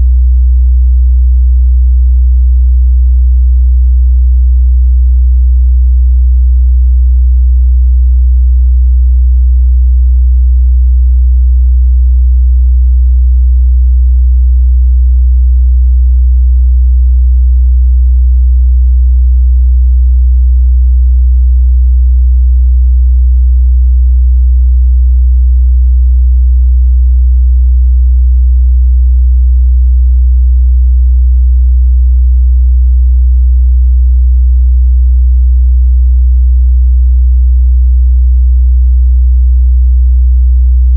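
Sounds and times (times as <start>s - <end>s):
low sine-wave test tone: 0.0s - 34.1s, 34.7s - 35.5s, 39.9s - 40.9s.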